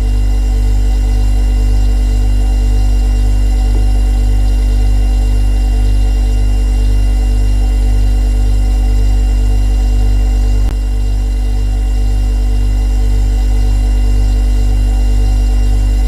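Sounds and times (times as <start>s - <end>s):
refrigerator compressor humming: 0.0s - 16.0s.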